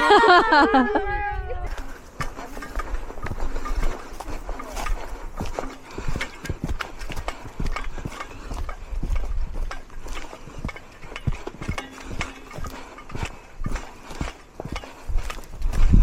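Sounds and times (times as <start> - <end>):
footsteps on dirt trail: 1.5 - 16.0.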